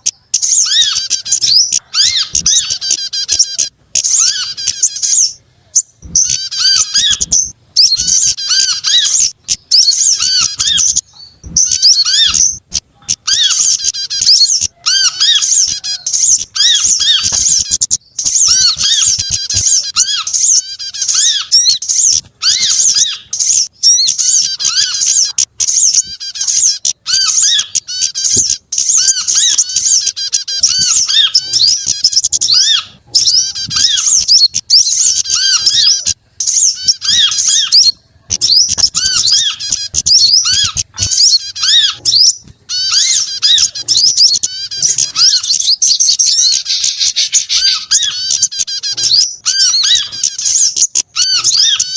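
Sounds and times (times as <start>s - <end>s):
short arched bird calls: 0.0s - 51.9s
songbirds chirping and twittering: 0.0s - 51.9s.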